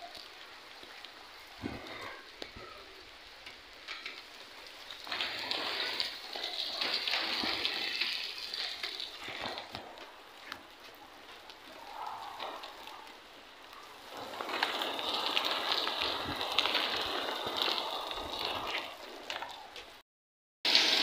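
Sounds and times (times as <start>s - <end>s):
rain pattering on a rooftop: 0.0s - 20.0s, 20.7s - 21.0s.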